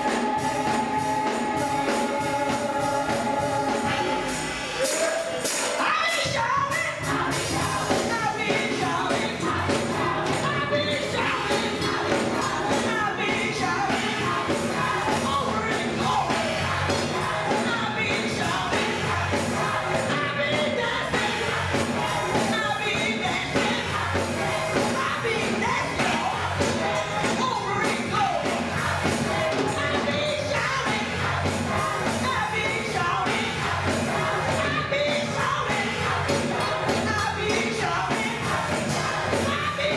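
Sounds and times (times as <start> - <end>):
gospel choir singing: 0.0 - 39.9
woman singing lead: 0.0 - 39.9.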